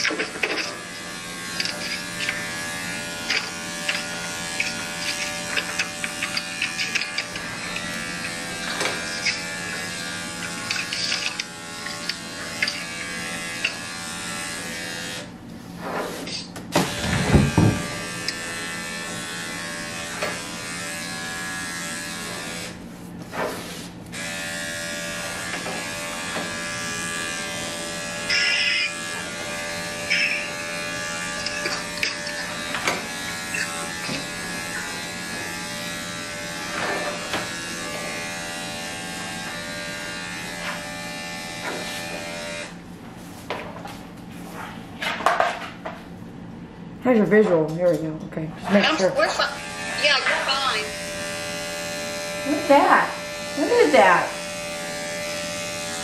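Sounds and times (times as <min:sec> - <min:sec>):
electric clipper buzzing: 0:00.0 - 0:15.5, 0:16.4 - 0:42.8, 0:48.8 - 0:56.0.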